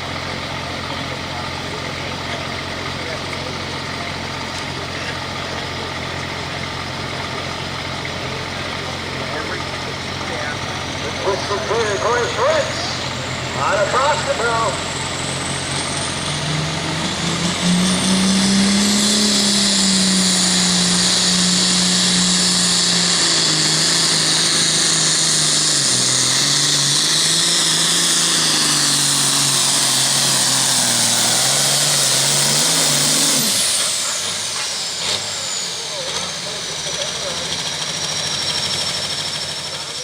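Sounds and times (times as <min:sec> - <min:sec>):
diesel tractor engine at full throttle: 0:00.0 - 0:40.0
high turbo whine: 0:00.0 - 0:40.0.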